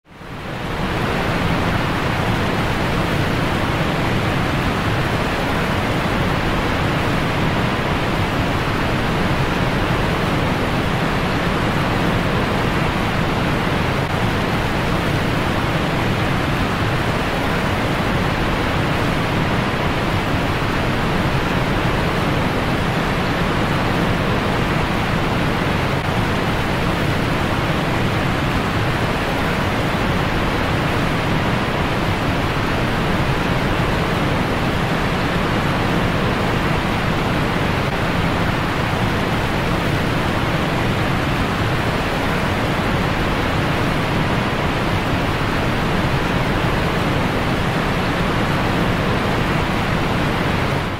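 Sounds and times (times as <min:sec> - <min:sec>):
waterfall and stream rushing: 0:00.1 - 0:50.9.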